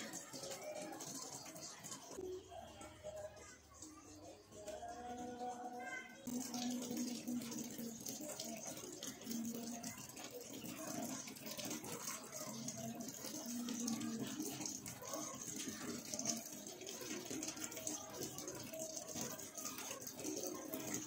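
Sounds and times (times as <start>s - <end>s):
faint indistinct voices: 0.0s - 21.0s.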